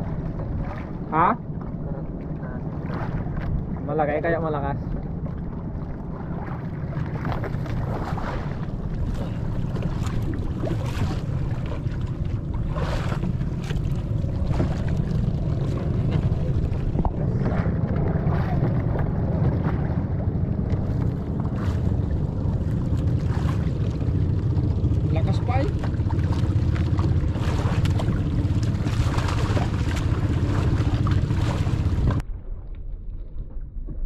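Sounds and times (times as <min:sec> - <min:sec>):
water splashes: 0:00.0 - 0:33.7
sea noise low rumble: 0:00.0 - 0:34.0
wind buffeting microphone: 0:00.0 - 0:34.0.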